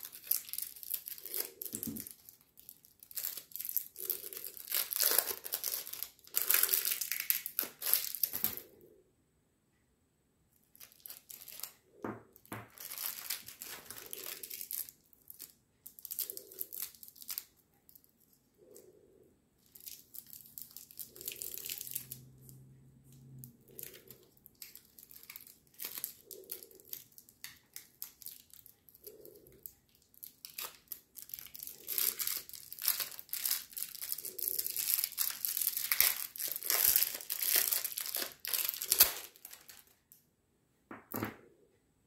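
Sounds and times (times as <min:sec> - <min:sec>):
plastic wrapper crinkling: 0:00.0 - 0:08.8, 0:10.6 - 0:18.4, 0:19.6 - 0:22.6, 0:23.2 - 0:40.2.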